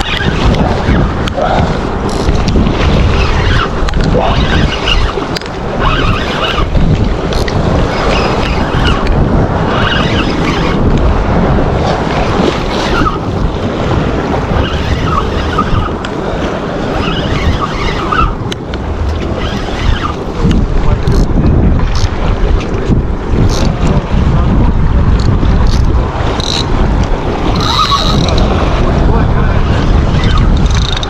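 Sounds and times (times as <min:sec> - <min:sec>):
sea water washing against rocks: 0:00.0 - 0:31.0
wind buffeting microphone: 0:00.0 - 0:31.0.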